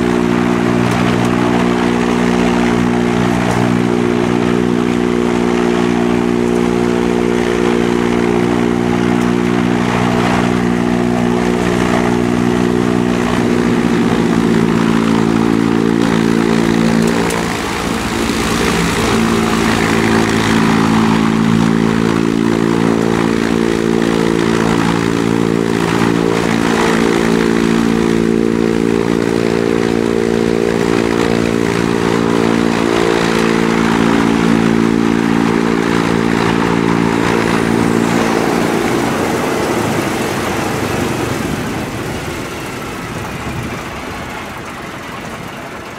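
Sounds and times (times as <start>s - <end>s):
radial aircraft engine and propeller: 0.0s - 45.9s.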